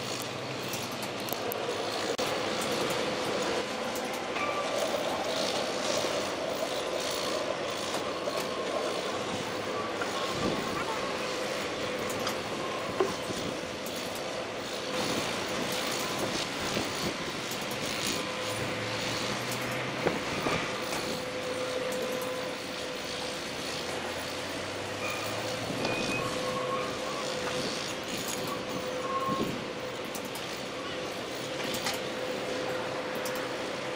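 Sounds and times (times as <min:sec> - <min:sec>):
crane whine: 0:00.0 - 0:33.9
heavy machinery running: 0:00.0 - 0:33.9.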